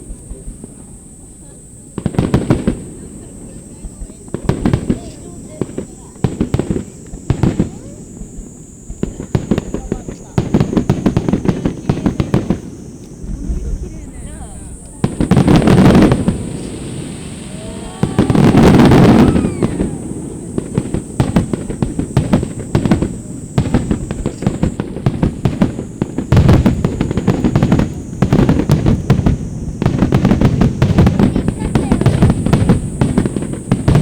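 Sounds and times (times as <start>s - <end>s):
fireworks crackling: 0.0s - 34.0s
fireworks booming: 1.9s - 34.0s.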